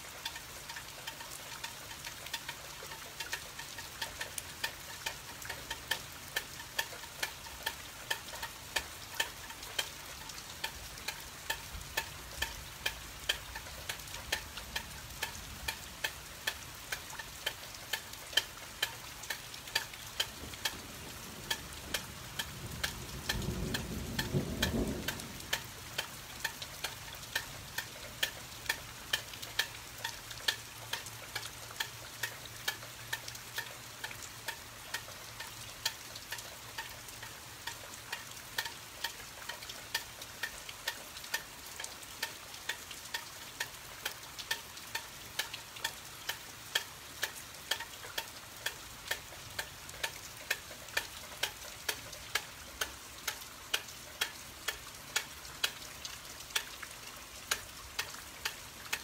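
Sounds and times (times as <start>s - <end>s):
rain falling: 0.0s - 59.0s
regular ticking: 0.0s - 59.0s.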